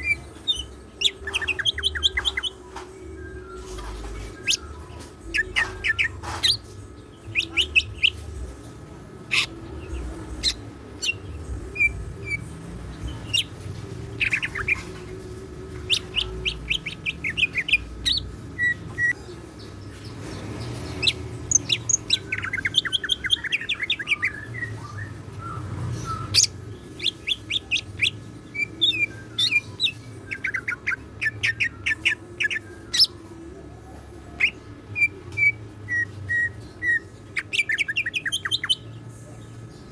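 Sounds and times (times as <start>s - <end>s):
bird chirping and trilling: 0.0s - 8.5s, 9.2s - 19.2s, 19.9s - 33.6s, 34.2s - 39.9s.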